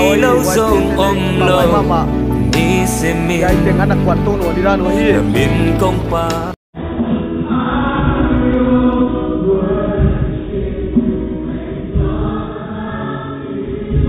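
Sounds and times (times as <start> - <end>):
choir singing worship song: 0.0 - 3.7, 4.6 - 14.0.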